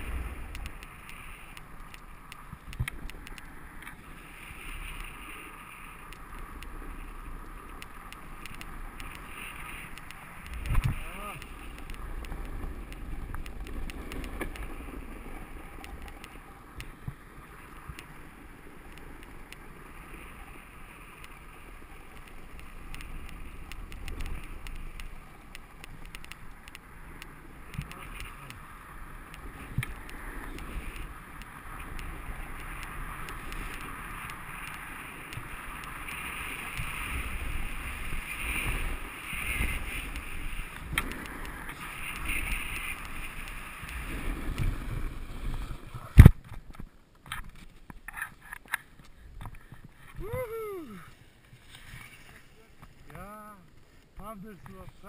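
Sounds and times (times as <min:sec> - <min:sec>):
snowboard scraping over snow: 0:00.0 - 0:46.3, 0:48.8 - 0:55.0.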